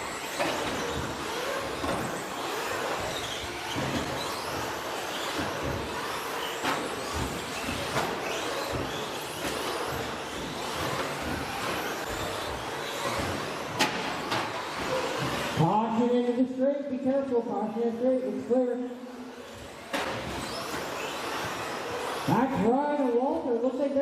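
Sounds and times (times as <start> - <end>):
electric motors whining: 0.0 - 16.4, 18.8 - 23.6.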